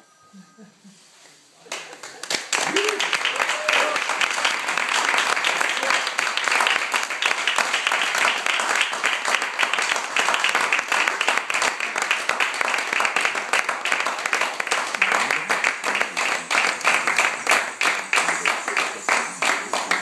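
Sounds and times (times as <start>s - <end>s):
audience applauding: 1.7s - 20.0s.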